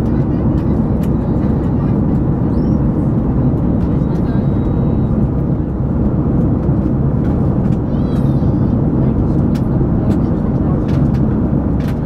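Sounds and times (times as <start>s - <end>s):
airliner cabin noise: 0.0s - 12.0s.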